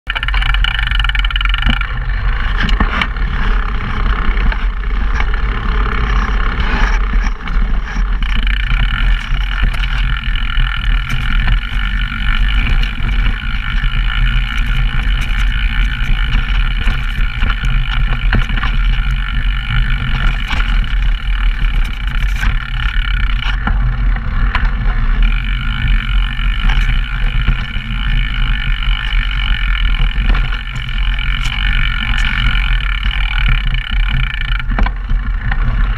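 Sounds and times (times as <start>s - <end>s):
bike knocks and rattles: 0.1s - 35.9s
wind and ground rumble: 0.1s - 35.9s.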